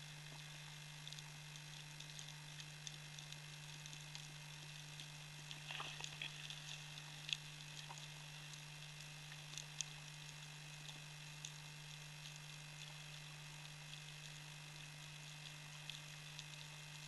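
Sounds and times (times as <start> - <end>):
low hum: 0.0 - 17.0
underwater crackling and clicks: 0.0 - 17.0.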